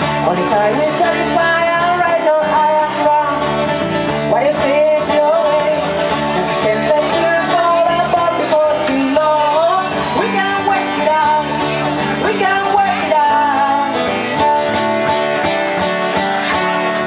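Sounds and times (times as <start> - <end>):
woman singing into microphone: 0.0 - 14.9
plucked double bass: 0.0 - 17.0
strummed acoustic guitar: 0.0 - 17.0.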